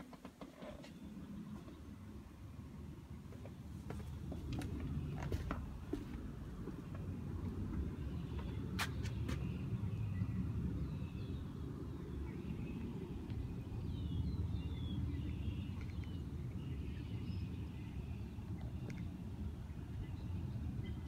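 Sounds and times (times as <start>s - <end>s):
faint birds chirping: 0.1s - 21.0s
steady low rumble: 1.0s - 21.0s.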